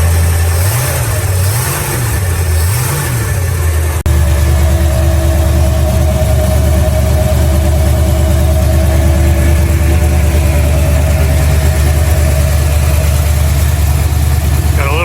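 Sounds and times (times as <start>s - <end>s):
pickup engine idling: 0.0s - 15.0s.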